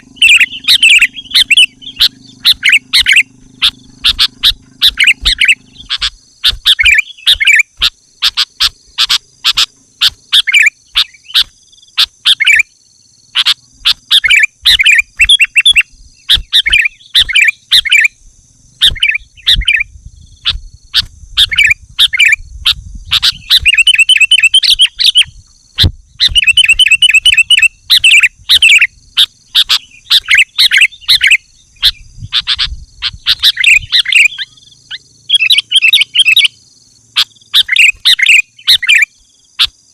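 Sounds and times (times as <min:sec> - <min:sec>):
bird chattering calls: 0:00.0 - 0:39.9
rapid bird trills: 0:00.0 - 0:39.9.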